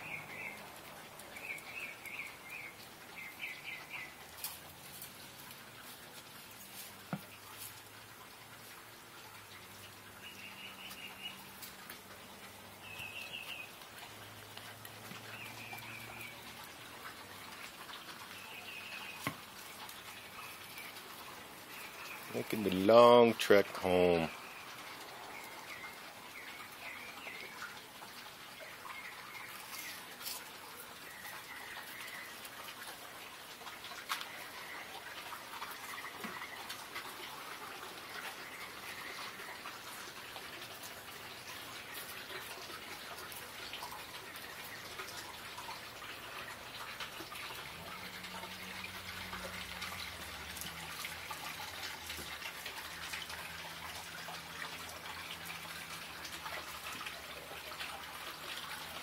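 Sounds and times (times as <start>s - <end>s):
fountain water trickling and splashing: 0.0s - 59.0s.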